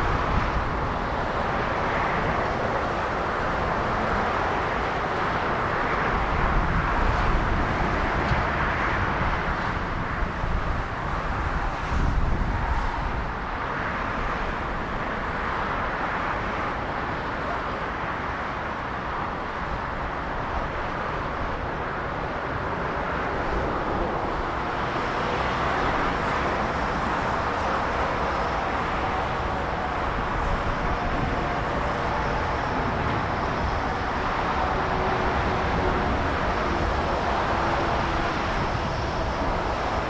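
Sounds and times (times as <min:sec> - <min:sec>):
jet engine noise: 0:00.0 - 0:40.0.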